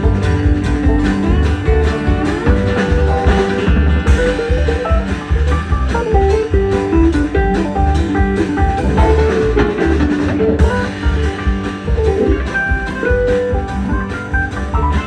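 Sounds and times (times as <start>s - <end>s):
bass: 0.0s - 15.0s
lead guitar melody: 0.0s - 15.0s
steady drum beat: 0.0s - 15.0s.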